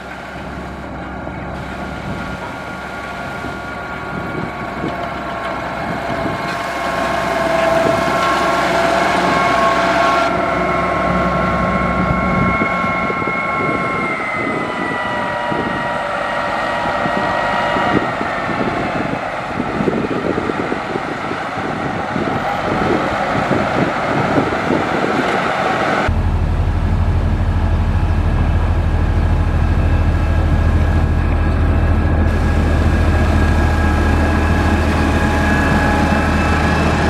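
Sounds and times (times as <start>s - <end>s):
heavy diesel machinery engine: 0.0s - 37.0s.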